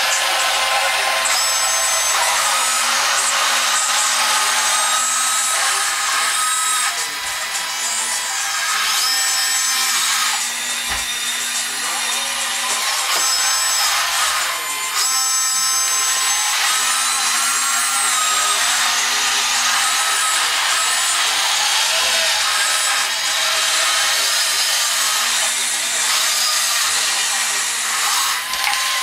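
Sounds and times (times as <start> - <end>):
electric motors and gears whirring: 0.0 - 29.0
high-pitched winch whines: 0.0 - 29.0.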